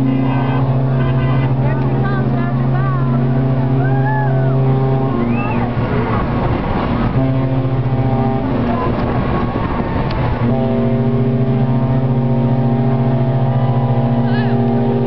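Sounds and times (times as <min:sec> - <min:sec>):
loud humming drone: 0:00.0 - 0:15.0
traffic rushing: 0:00.0 - 0:15.0.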